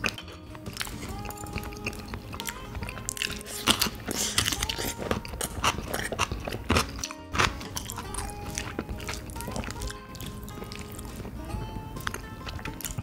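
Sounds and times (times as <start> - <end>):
close chewing and biting: 0.0 - 13.0
quiet background music: 0.0 - 13.0
wet mouth clicks: 0.0 - 13.0.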